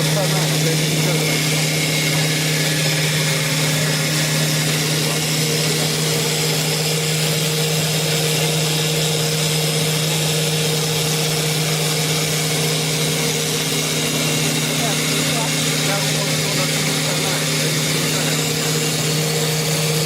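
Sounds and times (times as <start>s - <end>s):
higher machine tone: 0.0s - 20.0s
lathe motor hum: 0.0s - 20.0s.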